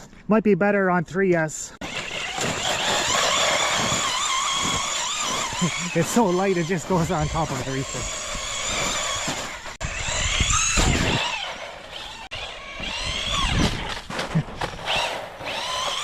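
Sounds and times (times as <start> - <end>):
toy truck motor whining: 1.8 - 16.0.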